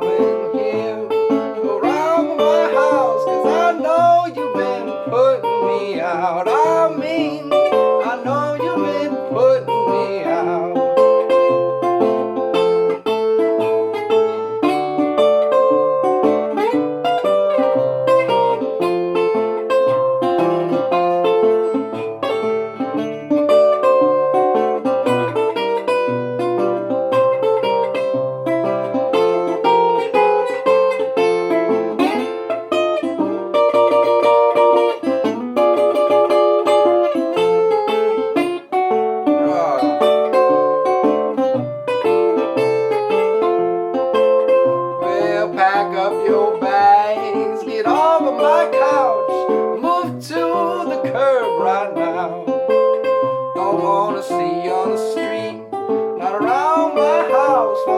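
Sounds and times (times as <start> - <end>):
solo guitar rag tune: 0.0 - 57.9.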